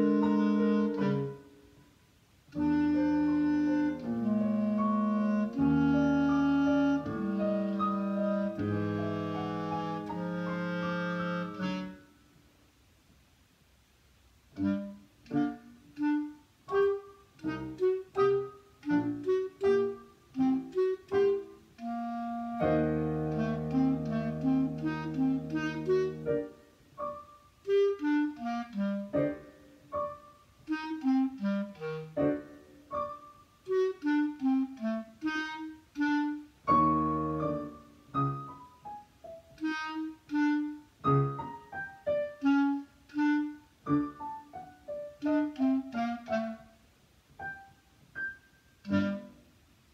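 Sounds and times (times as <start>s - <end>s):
clarinet solo: 0.0s - 1.8s, 2.5s - 12.3s, 14.6s - 49.8s
digital piano accompaniment: 0.0s - 1.8s, 2.6s - 12.1s, 14.5s - 49.6s.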